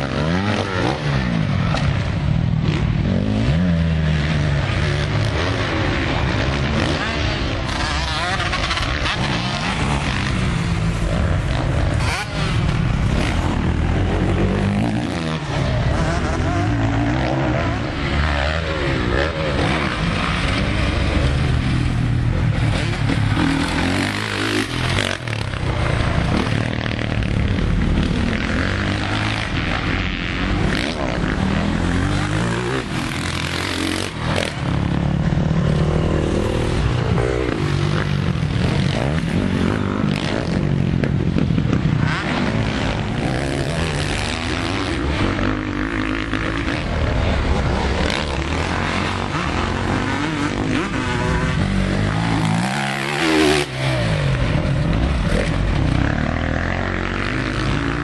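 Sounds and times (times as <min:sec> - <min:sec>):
motocross engines revving: 0:00.0 - 0:58.0.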